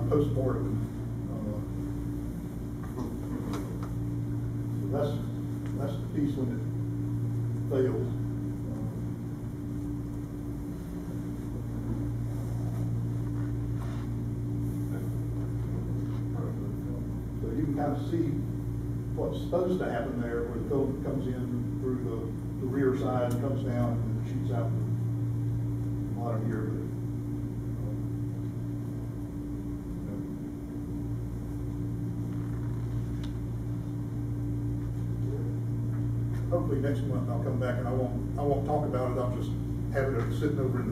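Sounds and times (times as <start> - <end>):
low room hum: 0.0 - 40.9.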